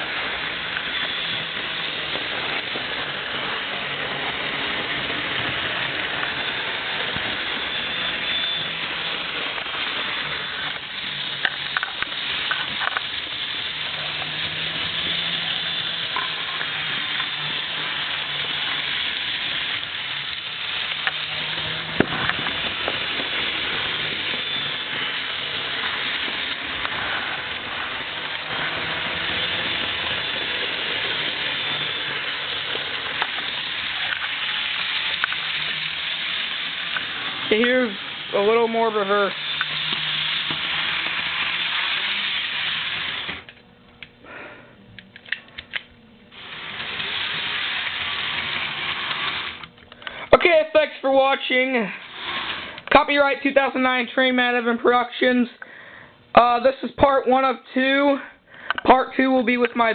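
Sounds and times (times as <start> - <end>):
model train motor whirring: 0.0 - 43.6, 45.2 - 53.7.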